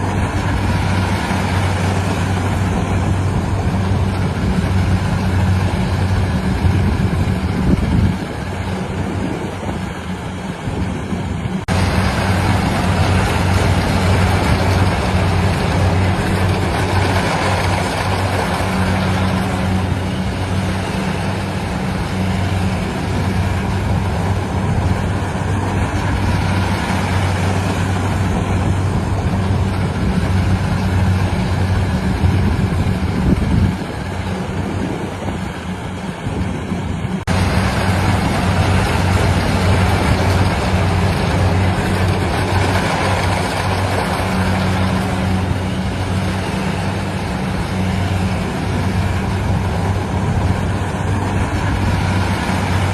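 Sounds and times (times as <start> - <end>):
harvesting machine engine humming: 0.0 - 52.9.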